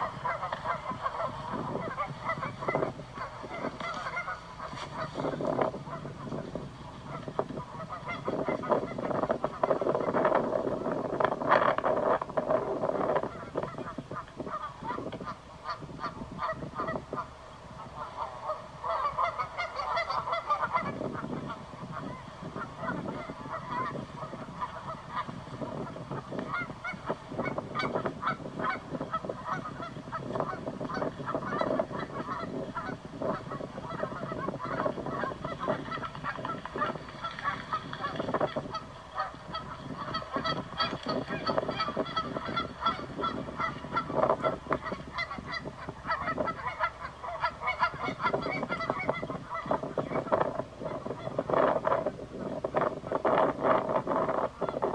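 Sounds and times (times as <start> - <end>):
flock of waterbirds calling: 0.0 - 54.9.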